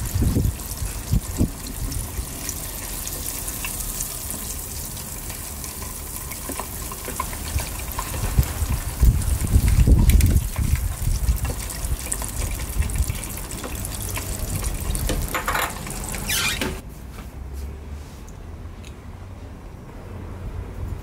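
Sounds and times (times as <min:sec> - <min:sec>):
oil sizzling in deep fryer: 0:00.0 - 0:16.8.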